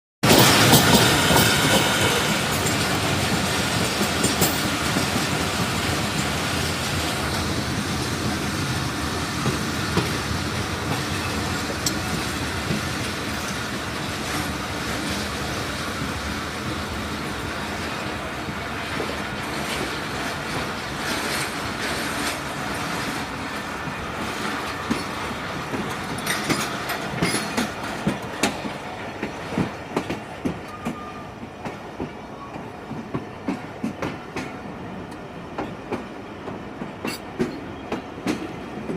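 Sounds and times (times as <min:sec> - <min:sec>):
wheel clacks at rail joints: 0:00.2 - 0:07.5, 0:09.4 - 0:16.2, 0:18.4 - 0:38.9
train wheels rumbling on track: 0:00.2 - 0:38.9.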